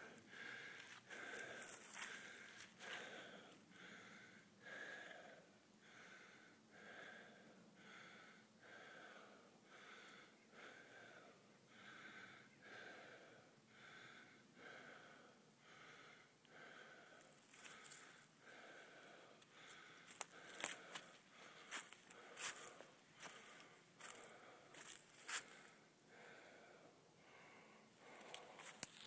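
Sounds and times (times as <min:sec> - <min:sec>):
person breathing hard: 0:00.0 - 0:29.0.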